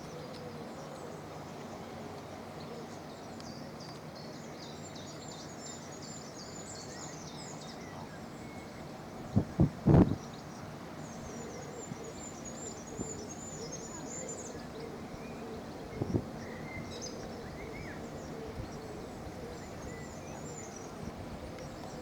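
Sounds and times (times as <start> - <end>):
small birds twittering: 2.9 - 22.0.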